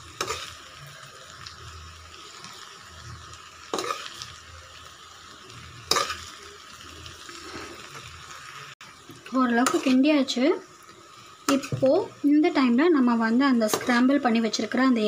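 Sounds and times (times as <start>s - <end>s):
rice sizzling in a pan: 0.0s - 15.0s.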